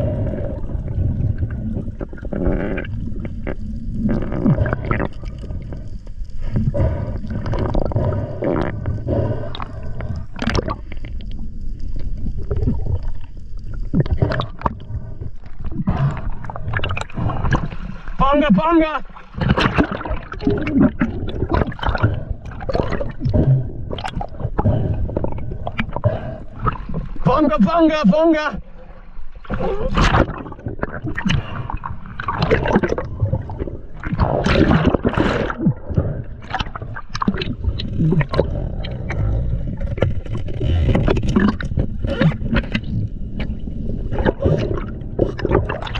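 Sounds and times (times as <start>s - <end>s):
underwater water rumble: 0.0s - 45.9s
water gurgling: 0.0s - 45.9s.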